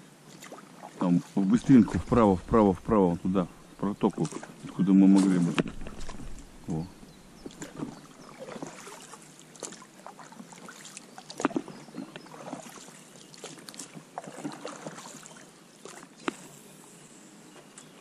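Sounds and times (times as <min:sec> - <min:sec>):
water splashing around boat: 0:00.0 - 0:16.5.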